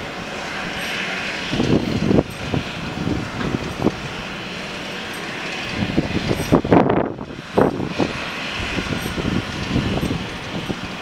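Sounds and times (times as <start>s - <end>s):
jet engine hiss: 0.0s - 11.0s
wind buffeting microphone: 0.0s - 11.0s.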